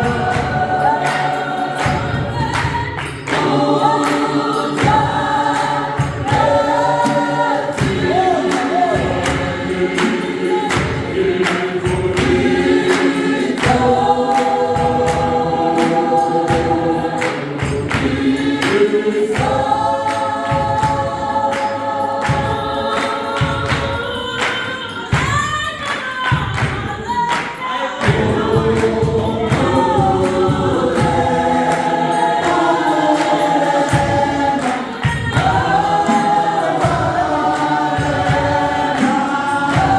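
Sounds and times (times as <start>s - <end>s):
choir singing in harmony: 0.0s - 39.9s
hand claps: 0.0s - 39.9s.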